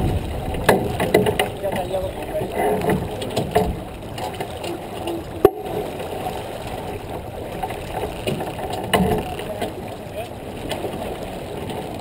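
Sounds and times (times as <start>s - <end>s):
rushing wind: 0.0s - 12.0s
water rushing: 0.0s - 12.0s.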